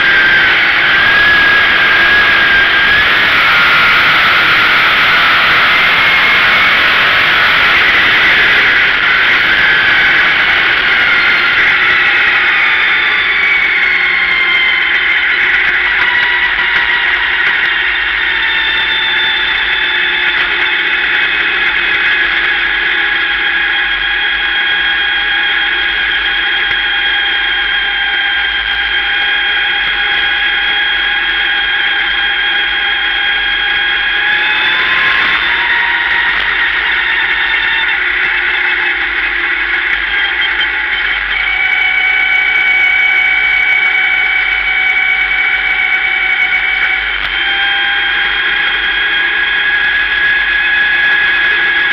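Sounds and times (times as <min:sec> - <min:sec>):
race car engine high-pitched drone: 0:00.0 - 0:51.9.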